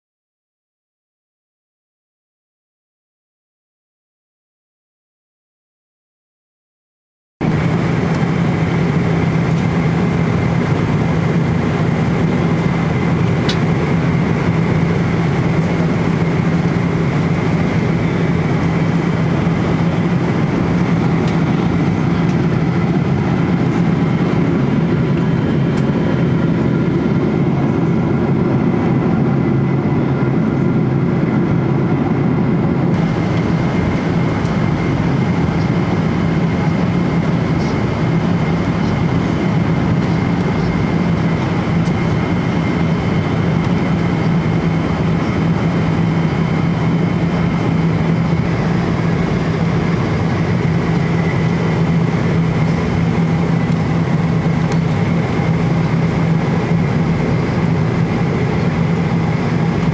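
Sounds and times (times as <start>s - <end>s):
low engine hum: 7.4s - 59.9s
rush of airflow: 7.4s - 59.9s.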